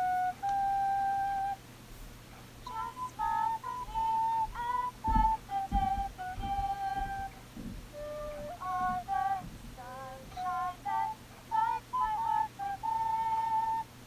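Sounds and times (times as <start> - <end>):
flute-like melody: 0.0 - 1.6, 2.6 - 14.0
soft low thumps: 0.0 - 13.4.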